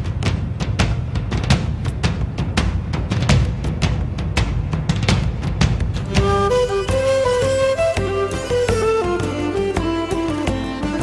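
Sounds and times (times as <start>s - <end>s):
drum-driven background music: 0.0s - 11.0s.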